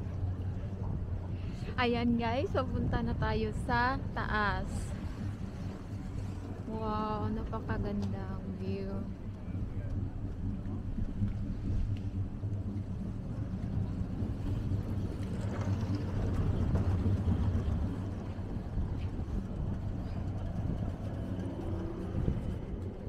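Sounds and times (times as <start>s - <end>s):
gondola lift hum and rumble: 0.0s - 23.0s.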